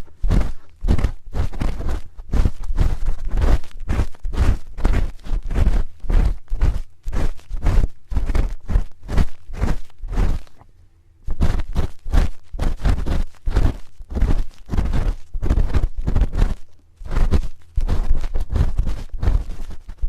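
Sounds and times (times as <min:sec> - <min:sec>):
spoon scraping microphone: 0:00.0 - 0:10.7, 0:11.3 - 0:20.0.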